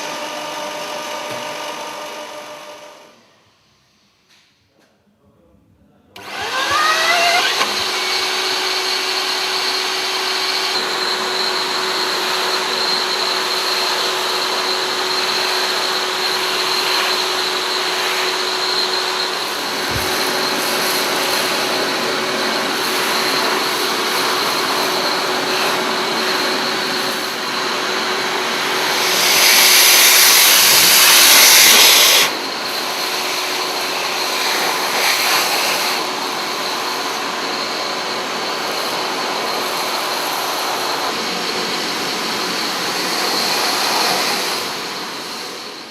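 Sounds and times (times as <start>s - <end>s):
industrial vacuum motor whining: 0.0s - 3.6s, 6.2s - 45.9s.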